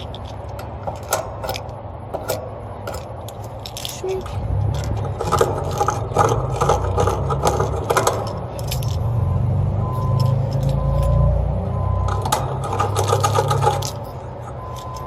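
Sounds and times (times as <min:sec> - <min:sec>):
metal tools clinking and scraping: 0:00.0 - 0:09.2, 0:09.8 - 0:15.0.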